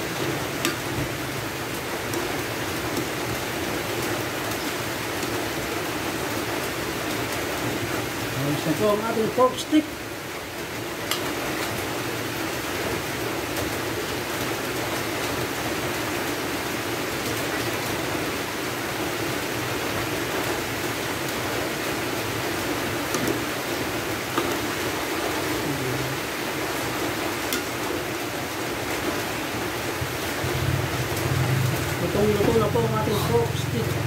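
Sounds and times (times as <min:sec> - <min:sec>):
pot boiling: 0:00.0 - 0:34.0.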